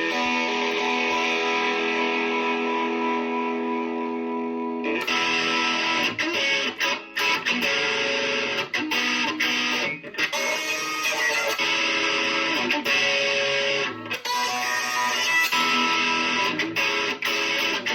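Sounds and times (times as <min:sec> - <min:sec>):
guitar strumming chords: 0:00.0 - 0:17.9.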